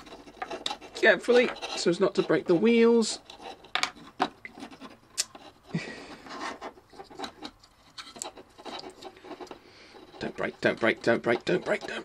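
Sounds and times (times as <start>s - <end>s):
wooden model parts clicking and scraping: 0.0s - 12.0s.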